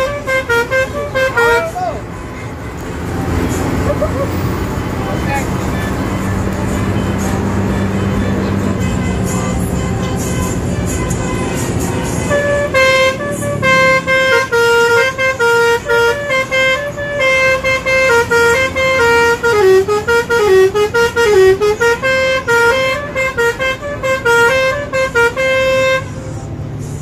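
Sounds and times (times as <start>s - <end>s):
bus multi-tone horn melody: 0.0s - 27.0s.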